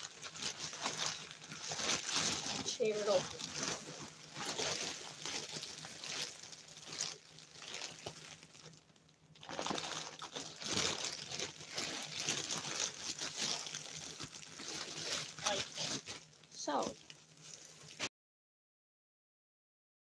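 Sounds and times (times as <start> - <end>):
package bag crinkling and tearing: 0.0 - 18.1.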